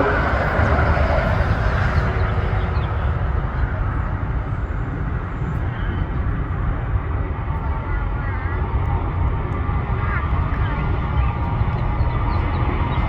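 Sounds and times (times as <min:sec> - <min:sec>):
airplane engine roar: 0:00.0 - 0:13.0.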